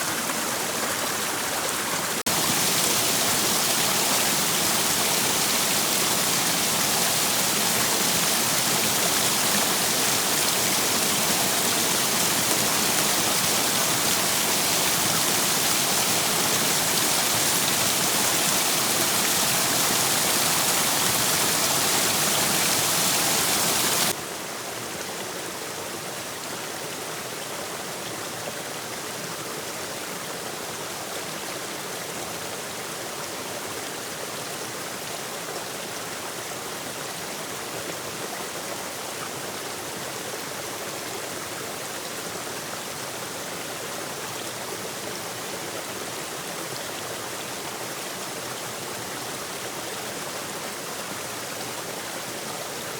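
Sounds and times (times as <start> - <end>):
waterfall and stream rushing: 0.0 - 52.9.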